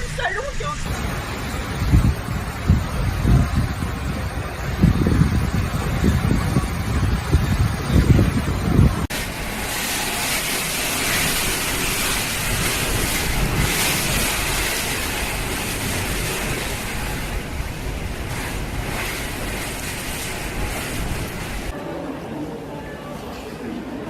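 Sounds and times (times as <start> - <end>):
rushing water: 0.0 - 21.8
torrential rain: 0.0 - 21.8.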